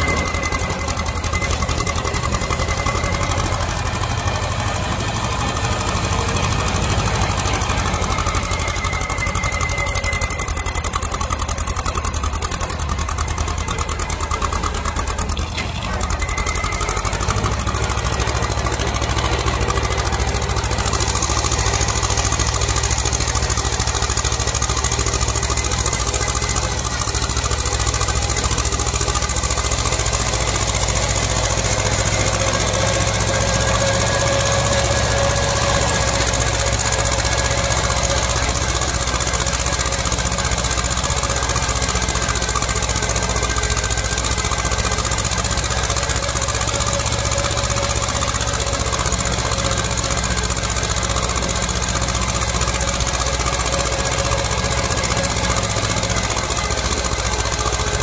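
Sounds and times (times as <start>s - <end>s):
tractor engine chugging: 0.0s - 58.0s.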